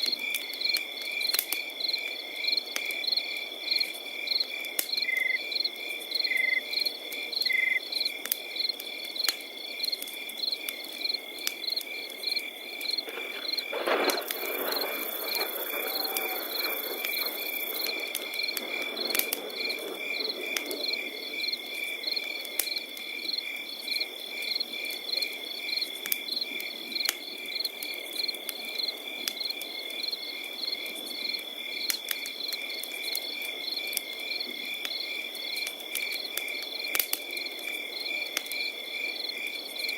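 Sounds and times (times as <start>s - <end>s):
crackling campfire: 0.0s - 39.9s
crickets chirping: 0.0s - 39.9s.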